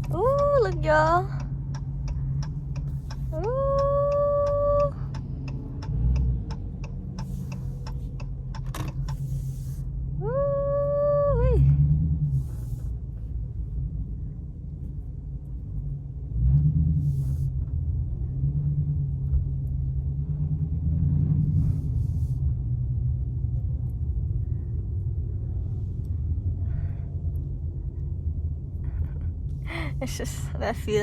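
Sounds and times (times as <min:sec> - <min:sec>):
car engine rumbling: 0:00.0 - 0:31.0.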